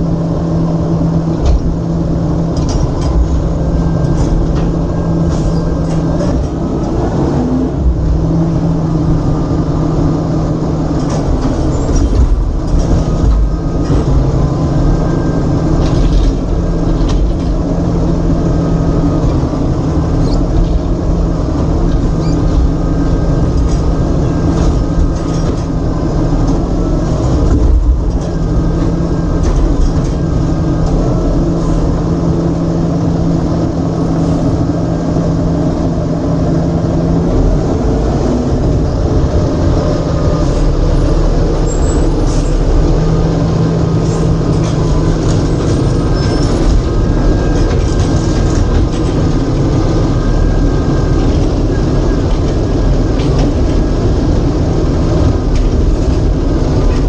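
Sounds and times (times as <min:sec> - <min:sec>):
garbage truck engine running: 0:00.0 - 0:57.0.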